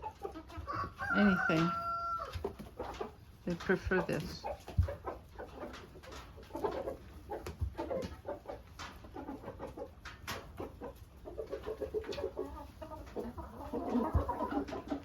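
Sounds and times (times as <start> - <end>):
hens clucking softly: 0.0 - 15.0.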